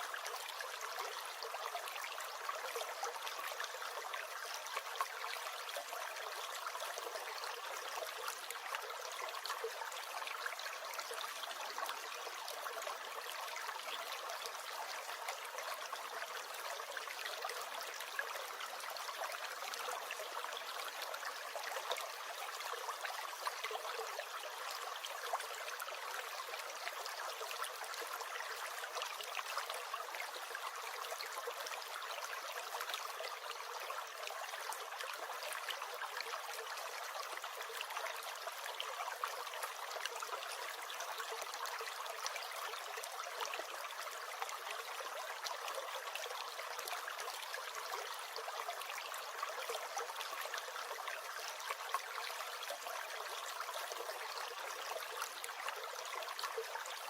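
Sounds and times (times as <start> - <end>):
small stream gurgling: 0.0 - 57.0.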